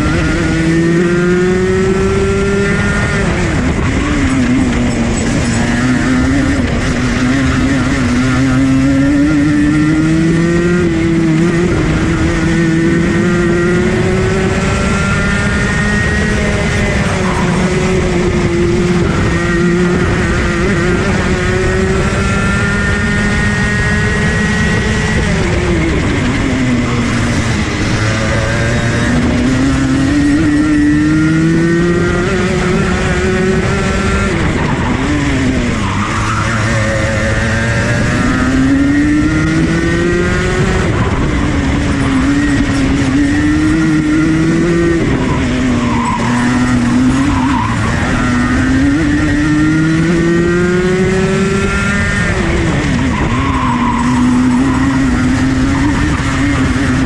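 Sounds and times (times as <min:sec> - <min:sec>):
kart engine accelerating: 0:00.0 - 0:57.0.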